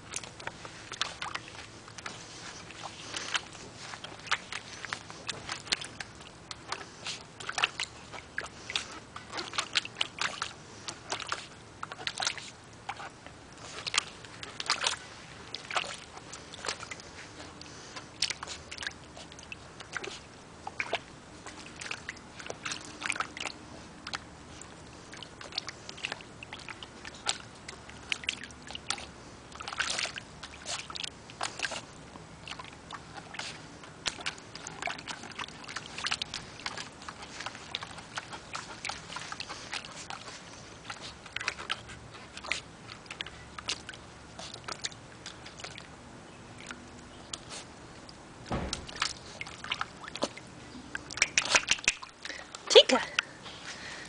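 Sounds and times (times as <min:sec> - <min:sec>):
dog splashing in water: 0:00.0 - 0:46.0, 0:46.6 - 0:53.2.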